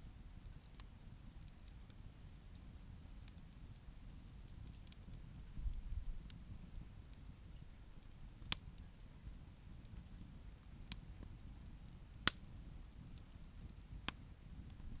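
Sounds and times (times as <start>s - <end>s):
campfire crackling: 0.0s - 15.0s
low steady rumble: 0.0s - 15.0s
sharp pops of fire: 0.3s - 15.0s.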